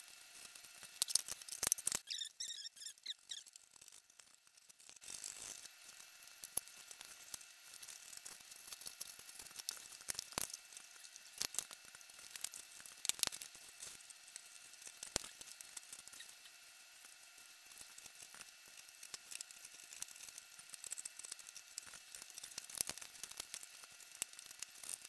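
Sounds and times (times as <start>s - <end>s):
wood crackling and scratching: 0.3s - 25.0s.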